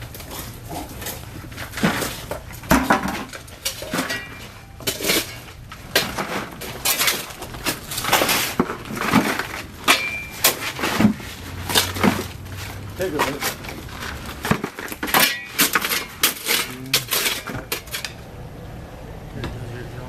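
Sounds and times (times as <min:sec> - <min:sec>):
shovel scraping into rubble: 0:00.1 - 0:18.2.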